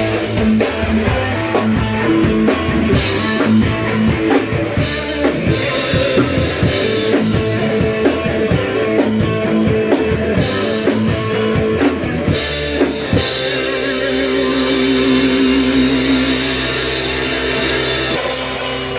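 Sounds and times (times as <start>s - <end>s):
drum beat: 0.0s - 18.9s
rock band playing: 0.0s - 18.9s.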